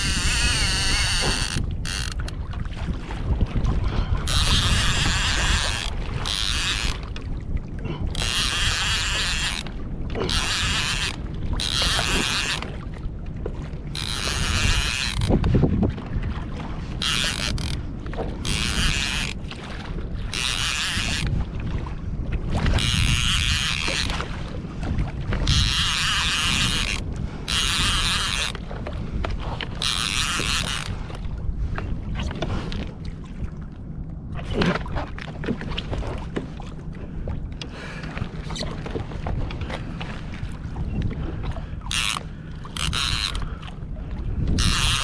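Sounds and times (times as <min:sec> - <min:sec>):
water washing against hull: 0:00.0 - 0:45.0
wind rumbling on microphone: 0:00.0 - 0:45.0.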